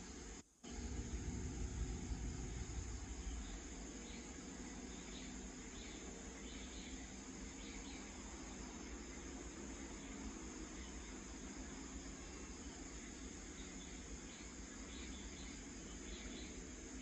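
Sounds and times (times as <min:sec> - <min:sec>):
insects chirping: 0:00.0 - 0:17.0
low steady rumble and hiss: 0:00.0 - 0:17.0.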